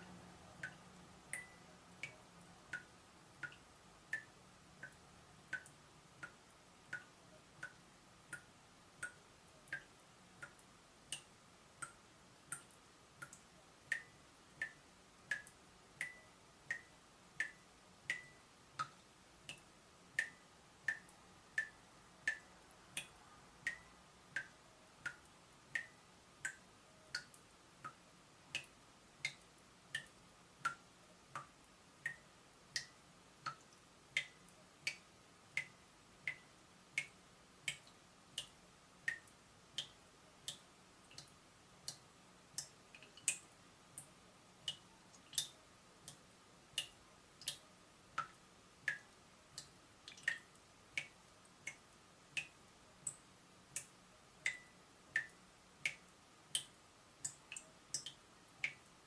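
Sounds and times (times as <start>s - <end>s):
water dripping from tap: 0.6s - 32.2s, 32.8s - 46.2s, 46.8s - 58.9s.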